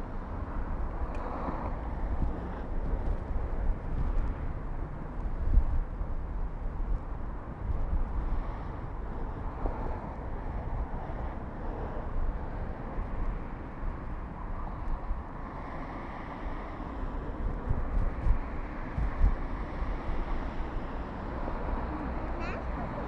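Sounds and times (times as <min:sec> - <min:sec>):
street and traffic noise: 0:00.0 - 0:23.0
wind rumbling on microphone: 0:00.0 - 0:23.0.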